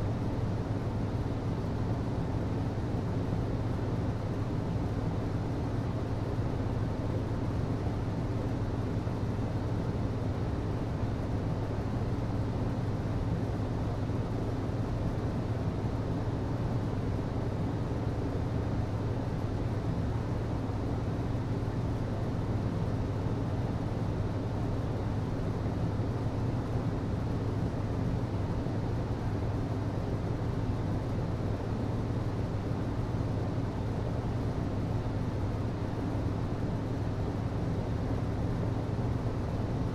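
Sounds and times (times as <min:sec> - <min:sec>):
hvac low hum: 0:00.0 - 0:39.9.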